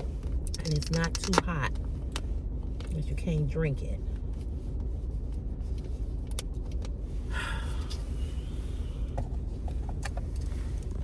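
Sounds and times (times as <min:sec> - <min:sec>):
vehicle interior rumble: 0:00.0 - 0:11.0.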